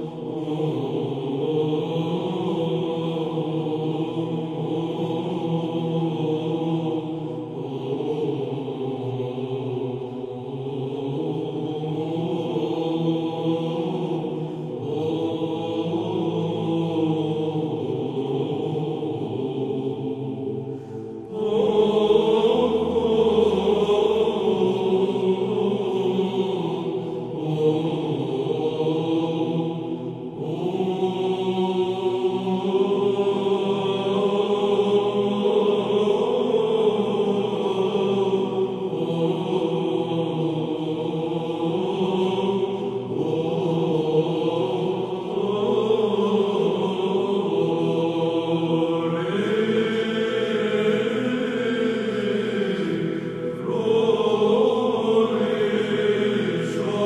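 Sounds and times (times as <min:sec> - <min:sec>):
choir chanting a hymn: 0:00.0 - 0:57.0.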